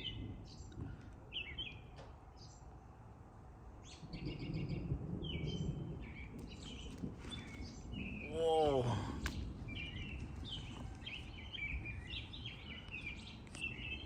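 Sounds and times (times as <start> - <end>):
distant thunder rumble: 0.0 - 2.4, 3.1 - 14.0
small birds chirping: 0.0 - 2.8, 3.8 - 14.0.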